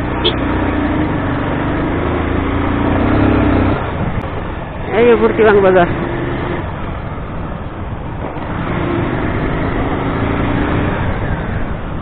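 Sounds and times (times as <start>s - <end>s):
road noise: 0.0s - 12.0s
wind noise: 0.0s - 12.0s.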